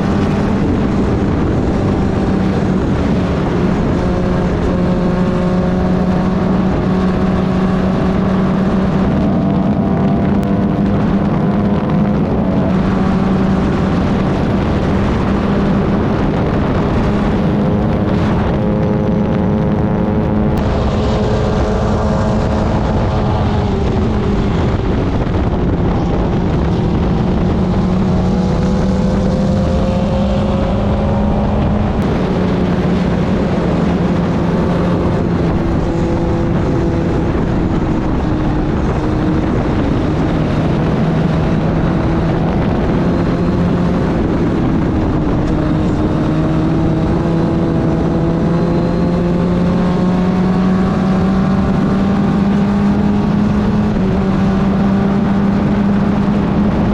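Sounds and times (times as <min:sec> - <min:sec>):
race car engine revving: 0:00.0 - 0:56.9
wind on microphone: 0:00.0 - 0:56.9.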